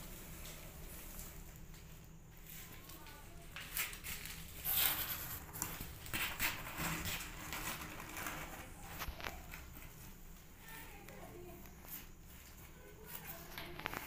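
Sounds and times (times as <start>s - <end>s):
cat rustling in cardboard box: 0.0s - 14.0s.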